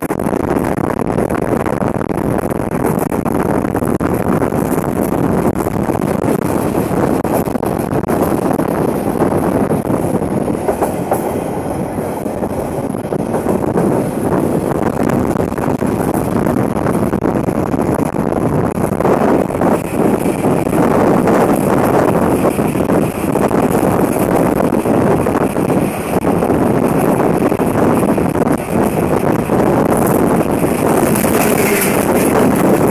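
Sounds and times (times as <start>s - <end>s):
train carriages rumbling on track: 0.0s - 32.9s.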